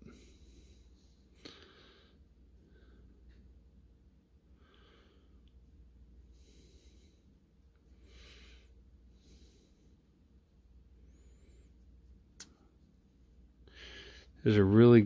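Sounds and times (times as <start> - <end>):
low steady hum: 0.0 - 15.0
soft breaths near microphone: 0.0 - 15.0.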